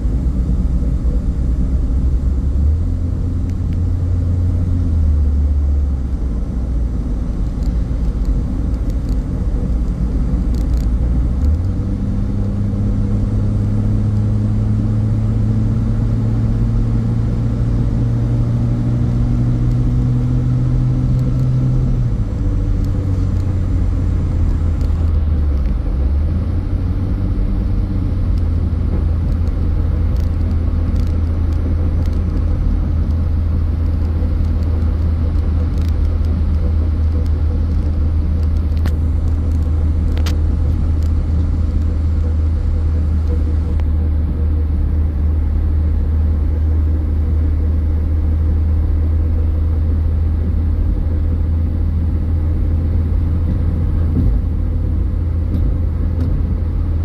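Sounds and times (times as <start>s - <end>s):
car engine: 0.0s - 57.0s
road rumble: 0.0s - 57.0s.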